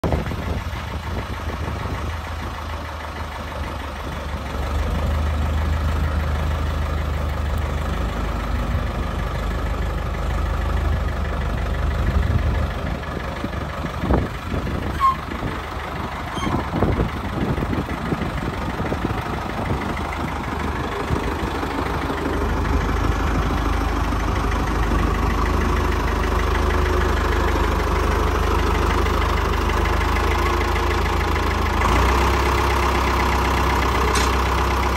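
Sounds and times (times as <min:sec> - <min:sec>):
tractor engine idling: 0:00.0 - 0:34.9.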